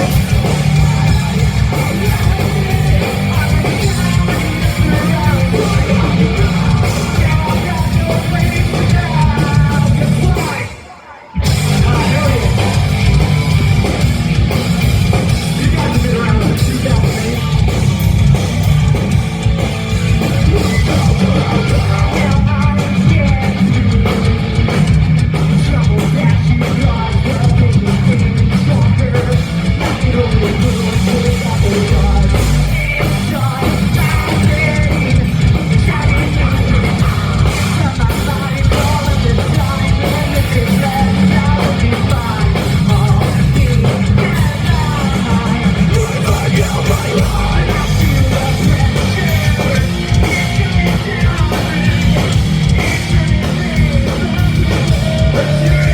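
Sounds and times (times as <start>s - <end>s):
distorted electric guitars: 0.0s - 55.9s
drum kit: 0.0s - 55.9s
vocals: 0.0s - 55.9s.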